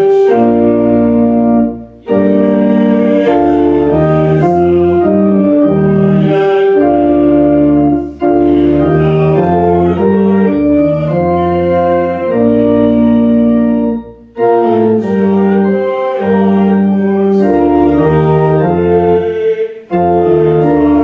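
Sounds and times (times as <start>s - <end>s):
church organ playing hymn chords: 0.0s - 21.0s.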